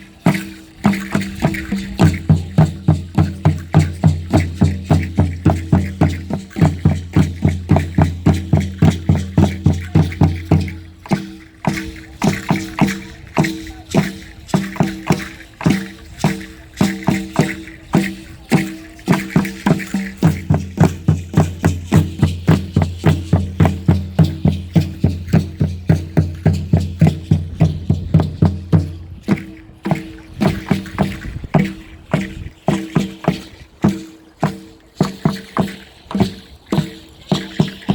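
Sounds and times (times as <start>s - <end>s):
deep drum beating: 0.3s - 37.9s.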